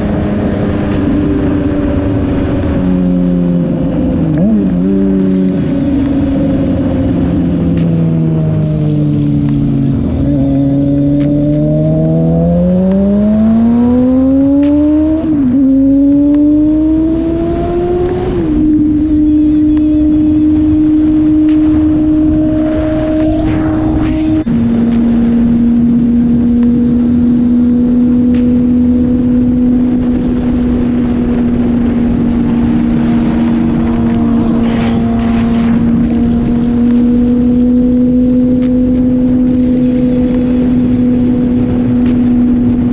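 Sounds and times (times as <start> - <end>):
motorcycle engine accelerating: 0.0 - 42.9
rushing noise: 0.0 - 42.9.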